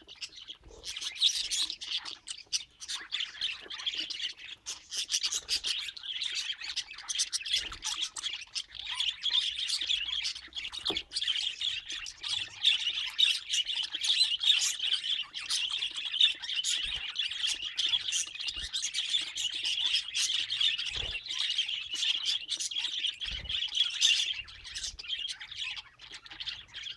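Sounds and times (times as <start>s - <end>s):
budgerigars chattering and chirping: 0.0s - 26.9s.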